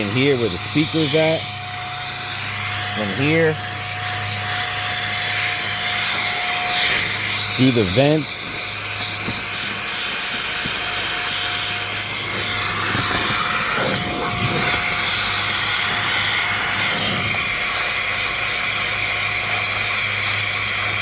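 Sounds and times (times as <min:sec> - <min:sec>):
electric air duster running: 0:00.0 - 0:21.0
nozzle scraping air vents: 0:00.0 - 0:21.0.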